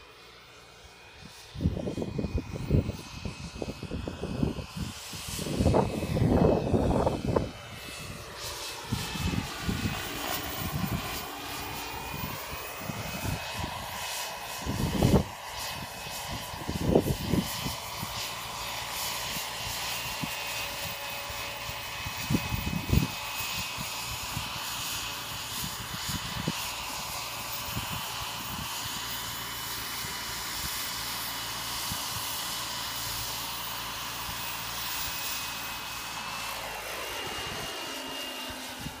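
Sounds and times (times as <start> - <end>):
gas turbine high whine: 0.0 - 39.0
helicopter rotor: 0.0 - 39.0.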